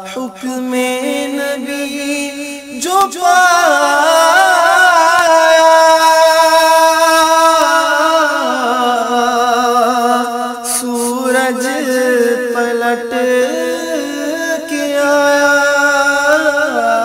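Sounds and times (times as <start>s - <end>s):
man singing melismatic notes: 0.0s - 17.0s.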